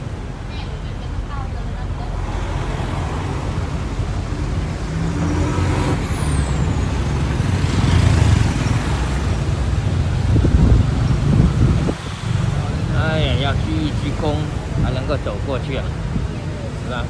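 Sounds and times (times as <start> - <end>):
motor vehicles passing: 0.0 - 17.0.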